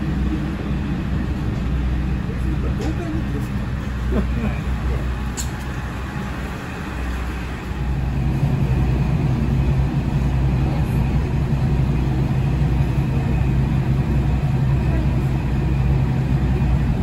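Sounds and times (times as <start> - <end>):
diesel railcar engine drone: 0.0 - 17.0.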